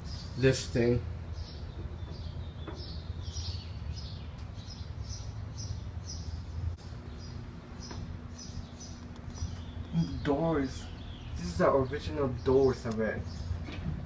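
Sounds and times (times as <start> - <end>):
steady low hum: 0.0 - 14.0
small bird chirping: 1.3 - 13.7.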